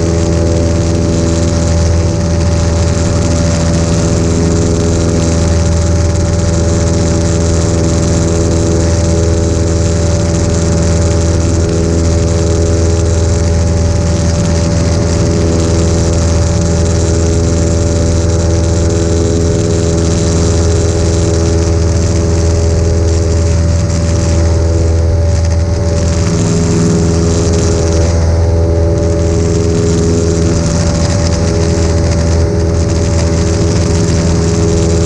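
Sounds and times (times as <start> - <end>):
propeller plane engine drone: 0.0 - 35.0.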